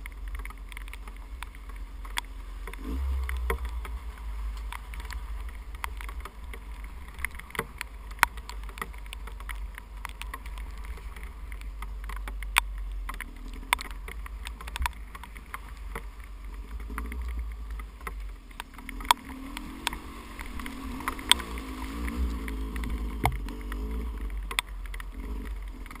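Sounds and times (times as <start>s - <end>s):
muffled dirt bike engine: 0.0s - 26.0s
sharp clicks and knocks: 0.0s - 26.0s.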